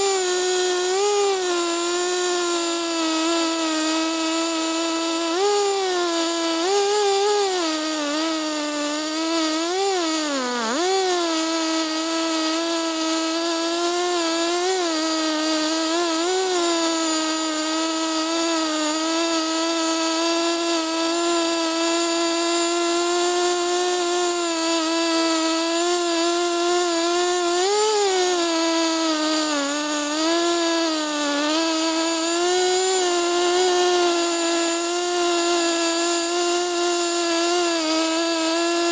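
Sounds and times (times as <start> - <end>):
chainsaw engine cutting: 0.0 - 38.9.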